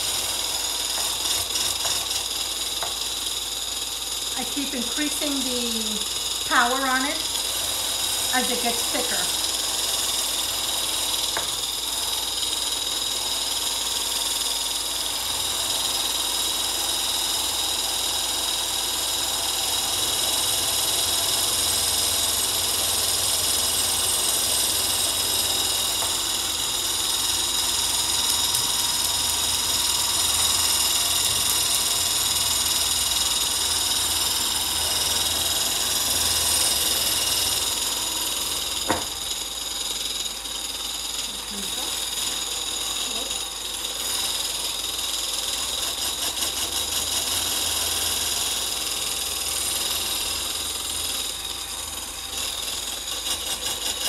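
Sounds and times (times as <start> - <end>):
electric mixer motor whining: 0.0 - 54.0.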